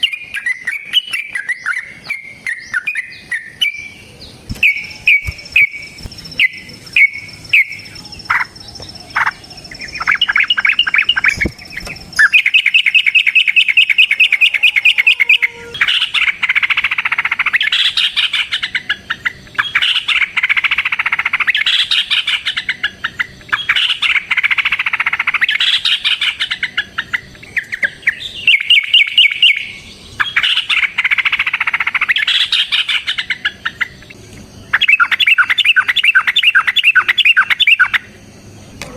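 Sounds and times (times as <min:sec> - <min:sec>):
bird singing chattering notes: 0:00.0 - 0:38.9.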